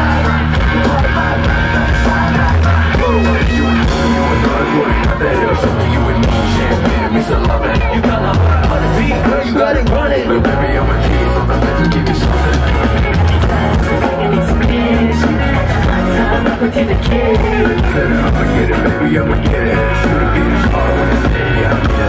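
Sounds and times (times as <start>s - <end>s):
band playing pop-rock: 0.0s - 22.0s
bass guitar: 0.0s - 22.0s
man singing into a microphone: 0.0s - 22.0s.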